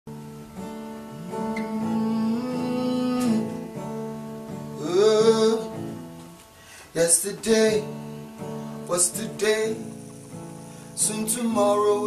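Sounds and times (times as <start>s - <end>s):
acoustic guitar chords: 0.1s - 12.0s.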